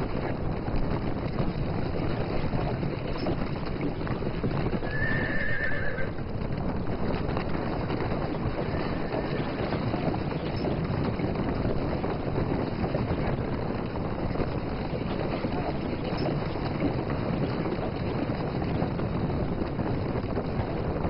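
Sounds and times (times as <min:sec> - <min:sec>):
horses galloping on dry ground: 0:00.0 - 0:21.0
wind: 0:00.0 - 0:21.0.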